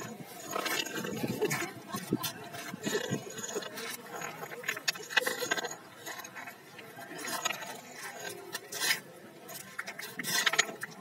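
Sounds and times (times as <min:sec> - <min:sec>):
pebble scraping on concrete: 0:00.0 - 0:11.0.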